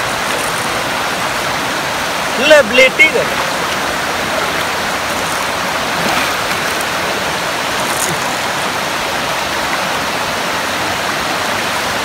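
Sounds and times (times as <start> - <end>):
water rushing over weir and rocks: 0.0 - 12.0.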